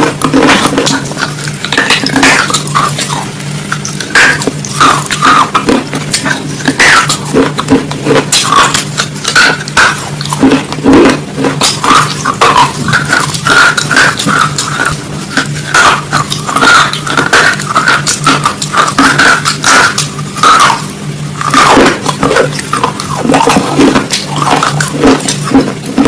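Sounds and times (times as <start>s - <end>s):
crunching raw vegetables: 0.0s - 26.0s
steady low hum: 0.0s - 26.0s.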